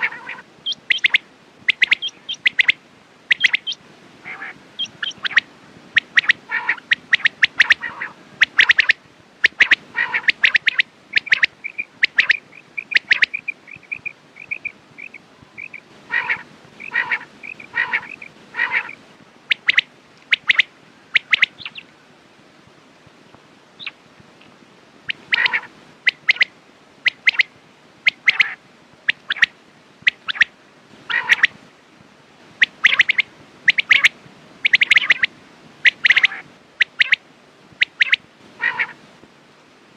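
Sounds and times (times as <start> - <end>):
quail calling: 0.0 - 21.9, 23.8 - 24.0, 25.1 - 31.6, 32.6 - 37.2, 37.8 - 39.0.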